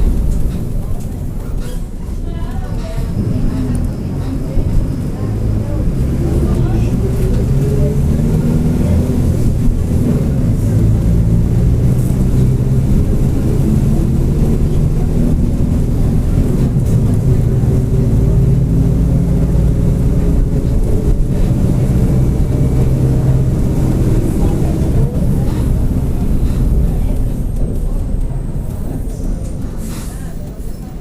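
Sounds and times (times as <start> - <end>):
diesel bus engine droning: 0.0 - 31.0.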